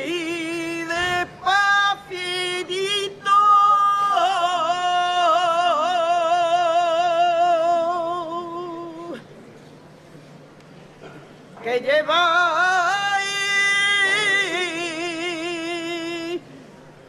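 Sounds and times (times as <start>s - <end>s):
person singing unaccompanied lament: 0.0s - 9.2s, 11.6s - 16.4s.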